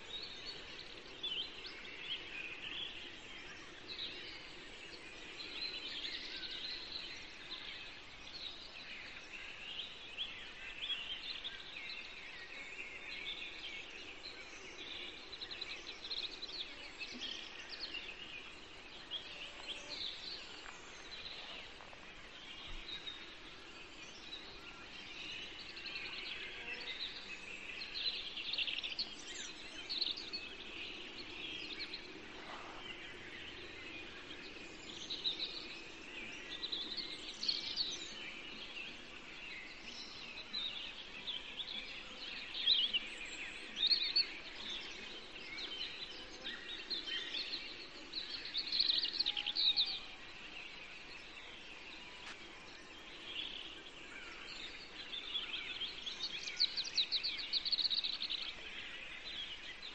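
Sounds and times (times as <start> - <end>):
faint background noise: 0.0 - 59.9
small birds chirping: 0.0 - 59.9.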